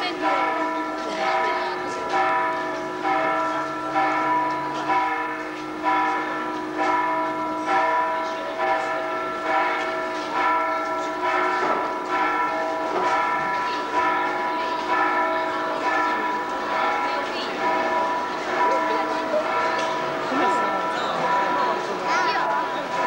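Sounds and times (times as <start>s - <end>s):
bells ringing: 0.0s - 23.0s.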